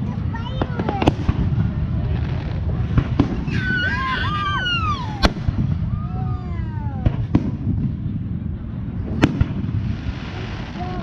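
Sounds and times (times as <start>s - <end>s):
sharp firework bangs: 0.0s - 3.8s, 4.4s - 11.0s
low rumble of fireworks explosions: 0.0s - 11.0s.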